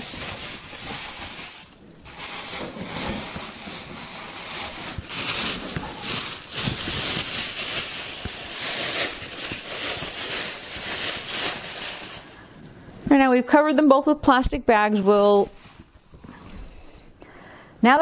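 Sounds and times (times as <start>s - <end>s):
plastic bags crinkling: 0.0s - 13.0s, 14.9s - 16.8s.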